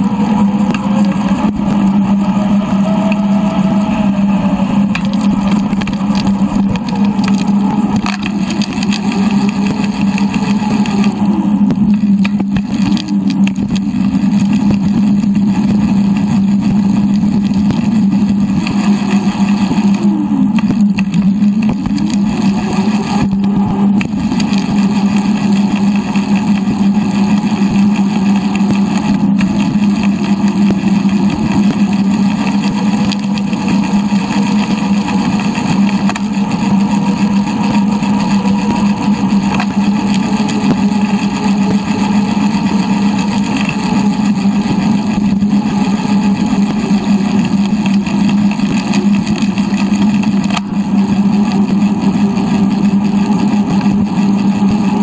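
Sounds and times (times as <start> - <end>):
wind and road noise drone: 0.0 - 55.0.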